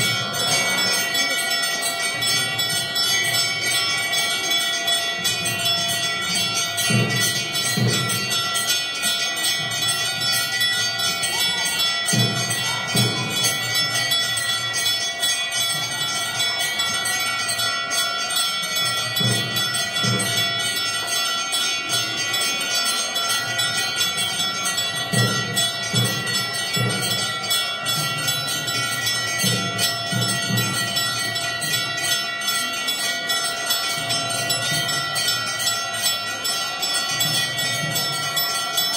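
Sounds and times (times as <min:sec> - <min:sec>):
temple bells ringing: 0:00.0 - 0:38.9.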